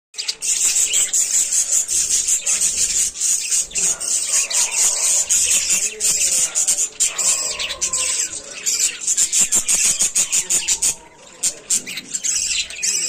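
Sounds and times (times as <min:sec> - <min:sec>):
budgerigars chattering: 0:00.2 - 0:13.0.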